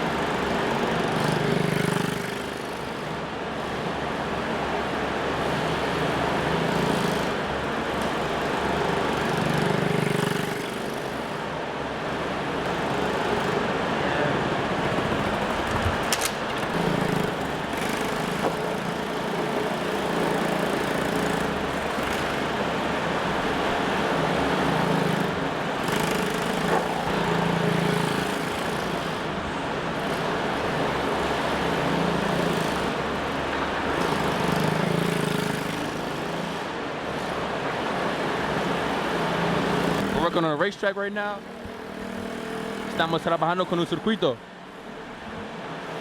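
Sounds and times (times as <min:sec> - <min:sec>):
small motorbike engine revving: 0:00.0 - 0:03.1, 0:05.3 - 0:40.6, 0:41.4 - 0:43.9.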